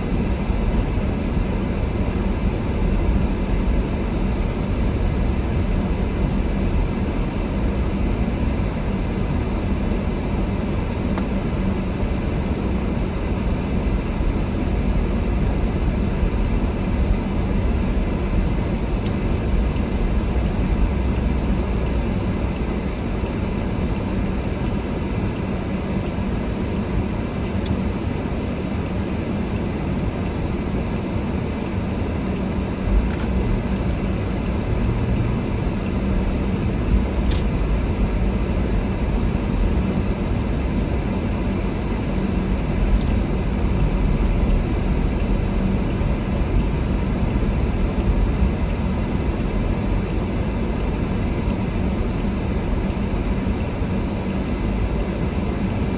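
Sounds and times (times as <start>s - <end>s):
car engine and tyre rumble: 0.0s - 55.9s.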